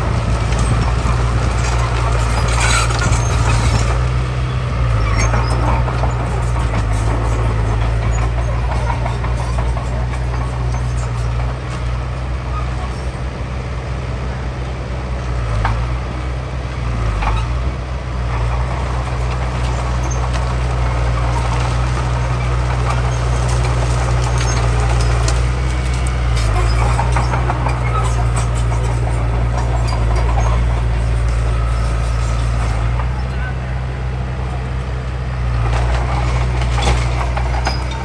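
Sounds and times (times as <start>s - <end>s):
heavy diesel machinery drone: 0.0s - 38.0s.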